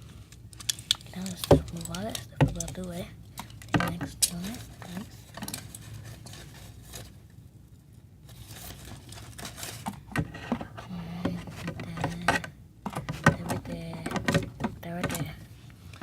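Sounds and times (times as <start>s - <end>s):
crinkling: 0.0s - 16.0s
objects handled on a table: 0.2s - 7.2s, 8.3s - 16.0s.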